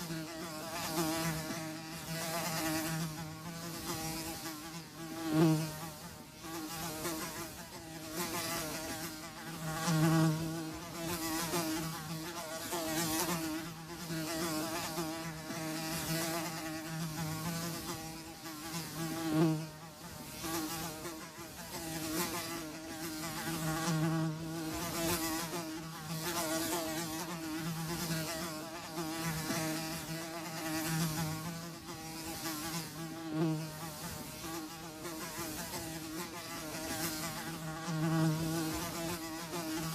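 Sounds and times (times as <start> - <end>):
flies buzzing: 0.0 - 39.9.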